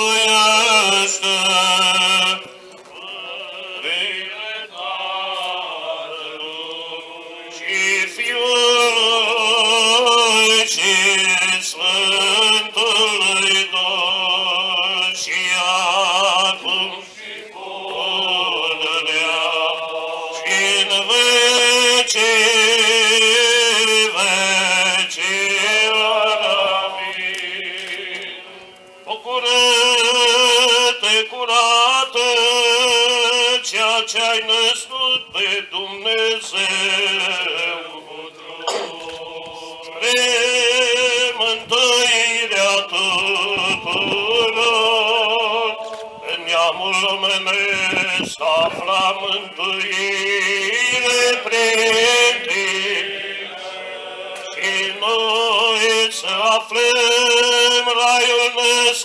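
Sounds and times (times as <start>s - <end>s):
men chanting a hymn: 0.0s - 59.0s.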